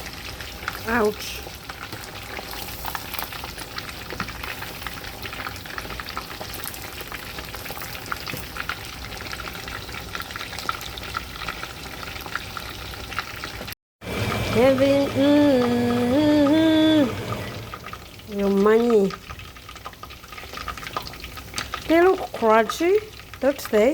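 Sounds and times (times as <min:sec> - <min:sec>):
chicken frying in hot oil: 0:00.0 - 0:23.9.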